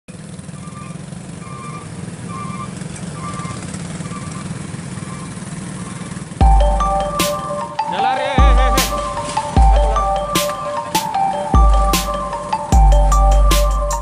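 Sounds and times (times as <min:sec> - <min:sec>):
motorcycle engines running: 0:00.1 - 0:14.0.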